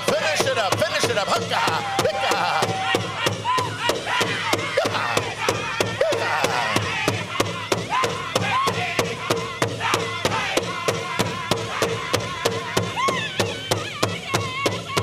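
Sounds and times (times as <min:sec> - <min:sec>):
big drum beating fast: 0:00.0 - 0:15.0
high-pitched singing voices: 0:00.0 - 0:15.0.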